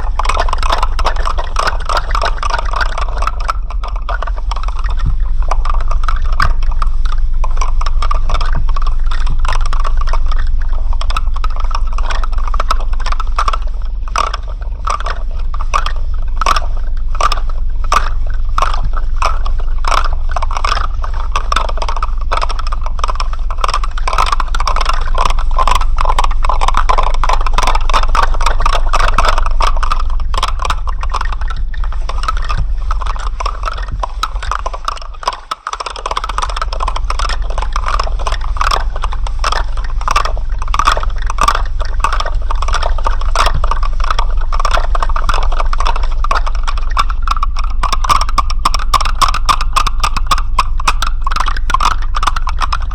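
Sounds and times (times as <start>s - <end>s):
dense rapid clicking rattle: 0.0s - 52.9s
steady low hum: 0.0s - 52.9s.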